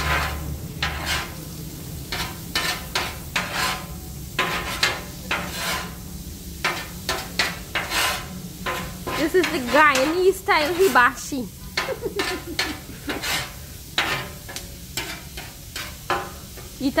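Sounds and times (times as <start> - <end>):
food sizzling: 0.0 - 17.0
metal spatulas scraping griddle: 0.0 - 17.0.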